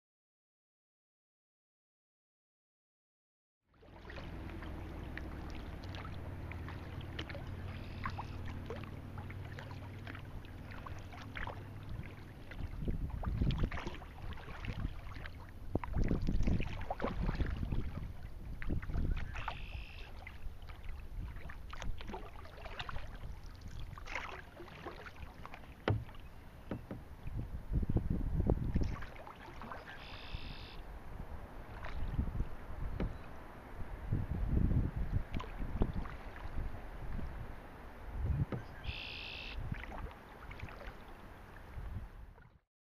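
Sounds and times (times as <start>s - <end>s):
paddle splashing in water: 3.8s - 27.8s, 28.4s - 34.1s, 35.0s - 42.6s
water slapping against hull: 3.8s - 37.5s, 38.2s - 42.6s
wind rumble on microphone: 4.3s - 19.6s, 20.3s - 24.2s, 25.8s - 38.9s, 39.6s - 42.6s.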